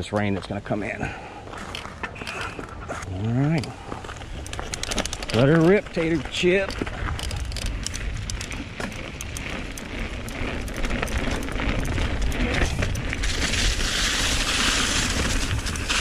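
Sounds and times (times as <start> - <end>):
bike rattling and clicking: 0.0 - 16.0
bike tyres rumbling on dirt: 0.0 - 16.0.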